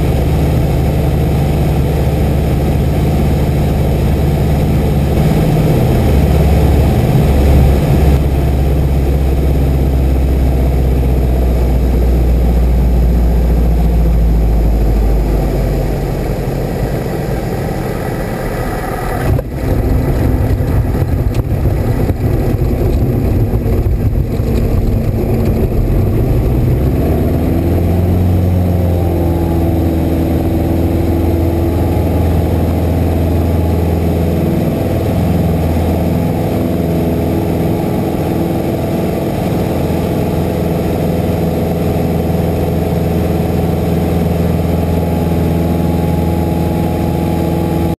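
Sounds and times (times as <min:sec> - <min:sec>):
propeller plane engine drone: 0:00.0 - 0:48.0.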